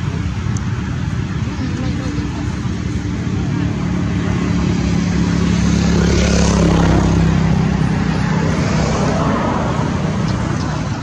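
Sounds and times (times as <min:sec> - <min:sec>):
motor vehicle engine humming: 0:00.0 - 0:11.0.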